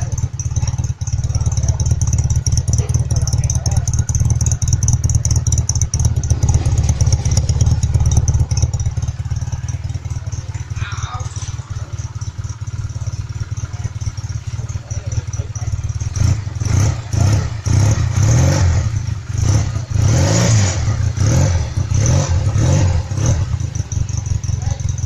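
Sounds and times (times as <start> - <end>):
engine throttle blips: 0.0 - 25.0
motorcycle engine idling: 0.0 - 25.0.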